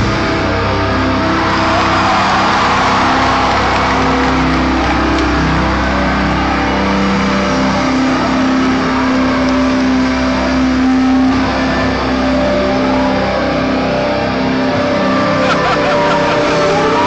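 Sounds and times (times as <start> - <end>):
loud live band music: 0.0 - 17.0.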